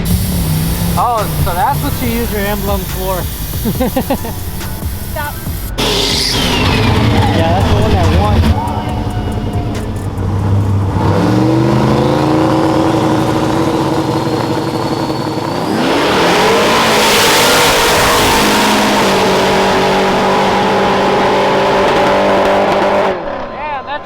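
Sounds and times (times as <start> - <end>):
thin rising whine: 0.0 - 23.2
boosted engines accelerating hard: 0.0 - 23.6.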